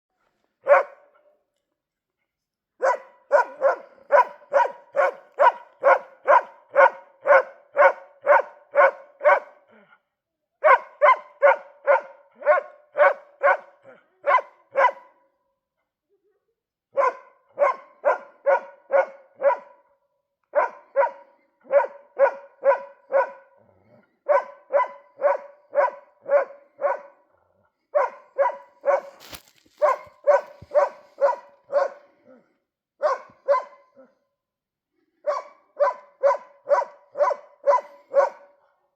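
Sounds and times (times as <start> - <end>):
dog barking: 0.6 - 1.4, 2.8 - 9.8, 10.6 - 15.4, 16.9 - 32.4, 33.0 - 34.3, 35.2 - 38.9.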